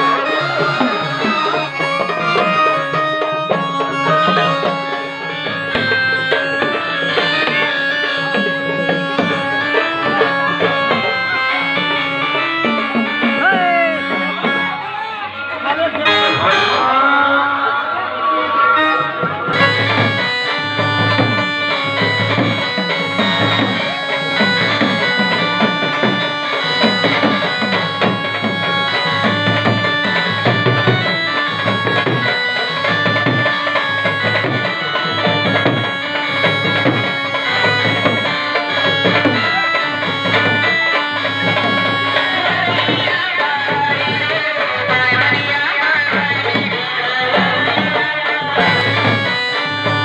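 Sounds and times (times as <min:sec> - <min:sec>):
steady drum beat: 0:00.0 - 0:14.8, 0:19.5 - 0:50.0
wind instrument melody: 0:00.0 - 0:50.0.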